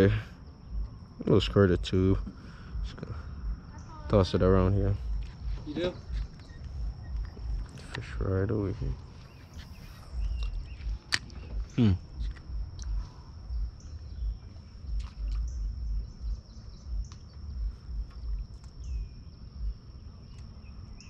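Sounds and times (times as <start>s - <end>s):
faint bird chirps: 0.0s - 21.0s
wind buffeting microphone: 0.0s - 21.0s.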